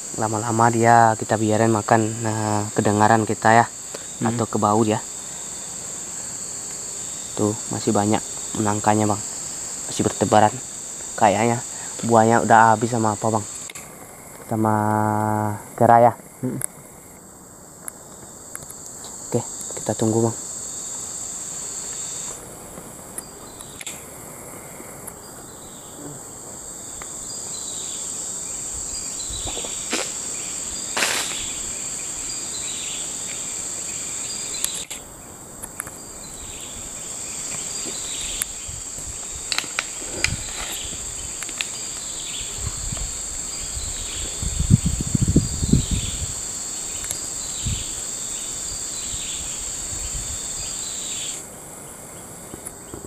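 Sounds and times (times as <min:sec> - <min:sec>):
high-pitched insect drone: 0:00.0 - 0:53.0.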